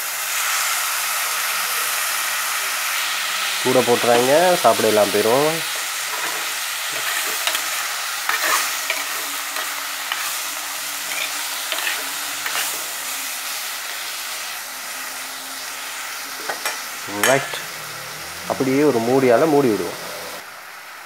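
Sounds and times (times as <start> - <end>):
vegetables sizzling in a pot: 0.0 - 21.0.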